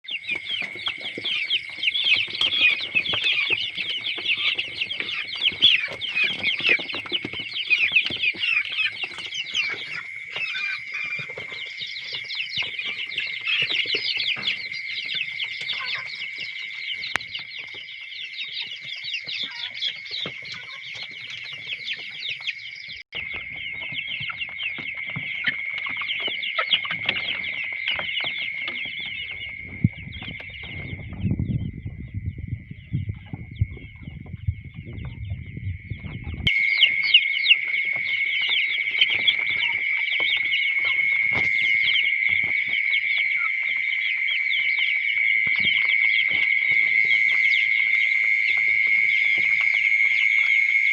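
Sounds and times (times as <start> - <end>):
flock of chickens calling: 0.0 - 31.9, 33.1 - 50.9.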